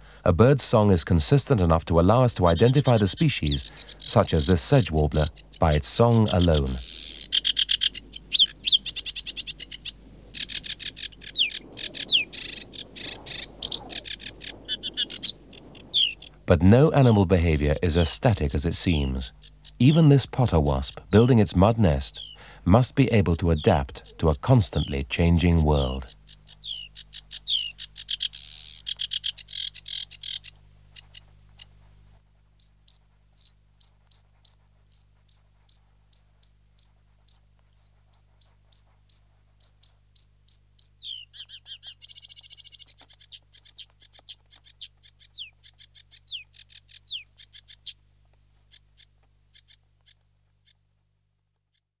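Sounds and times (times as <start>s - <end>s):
ducklings peeping: 0.7s - 50.8s.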